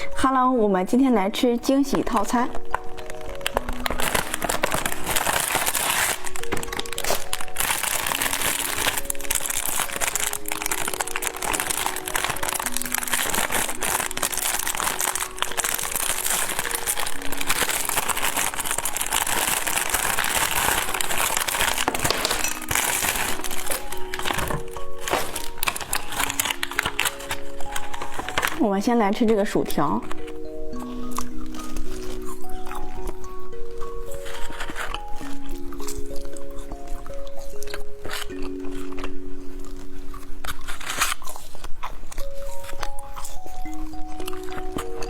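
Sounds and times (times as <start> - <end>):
background music with simple melody: 0.0 - 45.0
plastic wrapper crinkling: 0.9 - 45.0.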